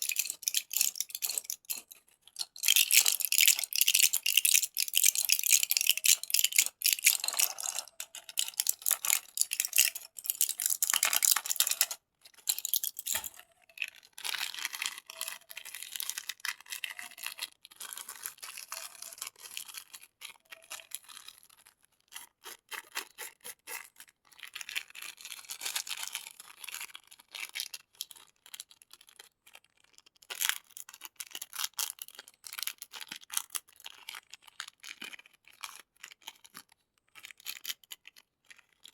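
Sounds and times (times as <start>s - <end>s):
candy wrappers crackling and rustling: 0.0s - 38.9s.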